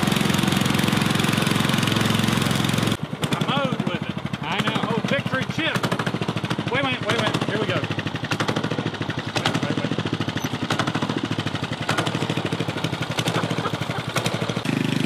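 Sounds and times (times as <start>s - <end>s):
lawn mower engine idling: 0.0s - 15.0s.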